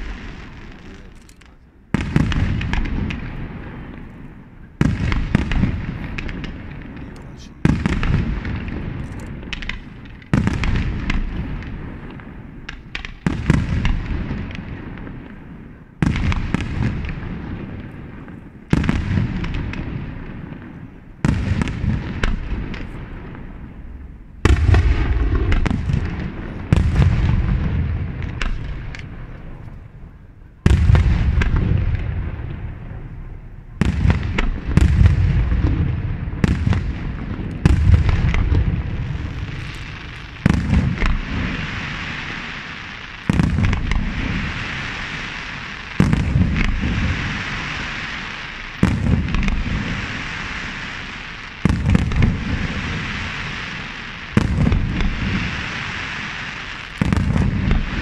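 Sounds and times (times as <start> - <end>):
firework booms with echo: 0.0 - 1.2, 1.9 - 58.0.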